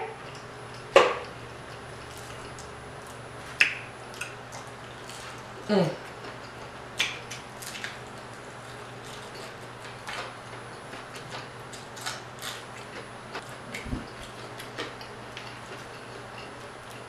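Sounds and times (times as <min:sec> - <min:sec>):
crispy fish crackling: 0:01.6 - 0:17.0.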